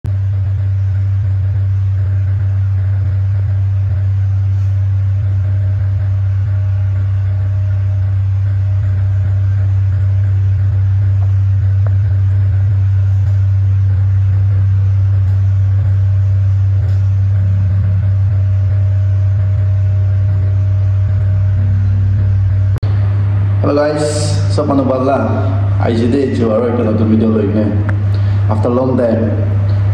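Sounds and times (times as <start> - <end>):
loud low hum: 0.0 - 29.9.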